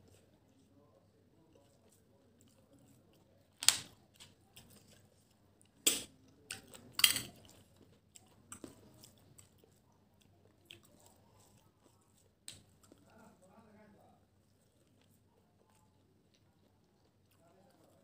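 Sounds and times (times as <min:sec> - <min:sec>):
quiet chewing: 0:00.0 - 0:18.0.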